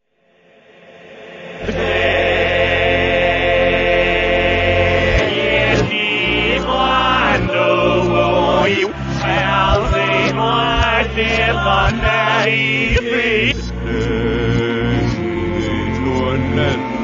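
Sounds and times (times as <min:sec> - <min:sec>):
held chords over low bass: 0:01.6 - 0:17.0.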